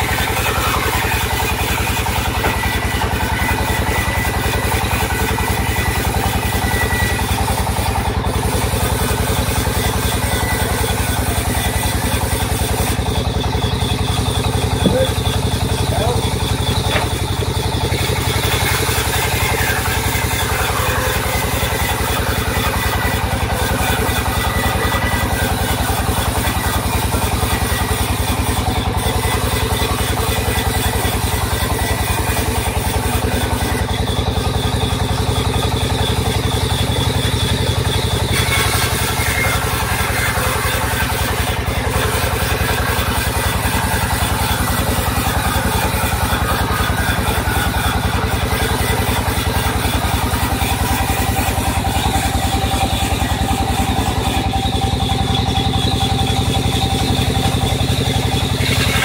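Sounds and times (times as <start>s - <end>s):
band saw droning: 0.0s - 59.0s.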